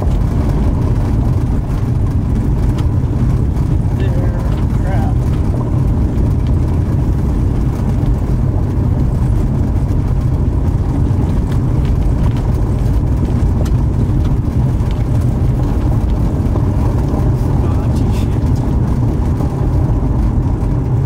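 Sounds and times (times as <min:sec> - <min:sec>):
loud low rumbling: 0:00.0 - 0:21.0.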